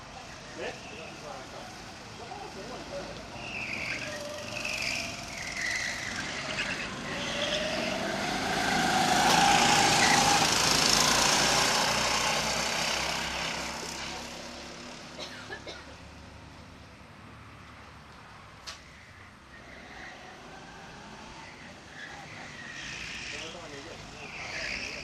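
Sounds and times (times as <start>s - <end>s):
go-kart engines buzzing: 0.0s - 16.9s, 18.6s - 25.0s.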